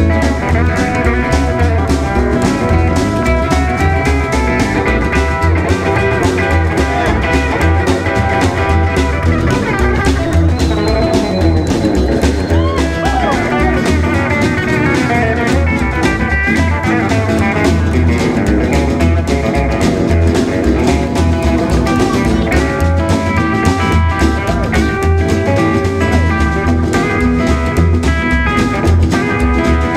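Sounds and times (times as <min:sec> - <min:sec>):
driving drum beat: 0:00.0 - 0:29.9
electric guitar lead: 0:00.0 - 0:29.9.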